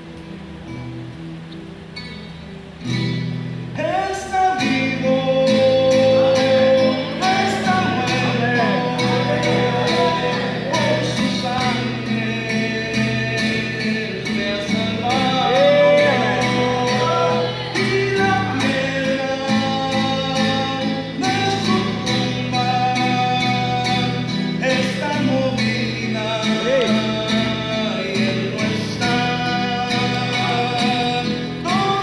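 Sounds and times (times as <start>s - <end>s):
strummed acoustic guitar music: 0.0s - 32.0s.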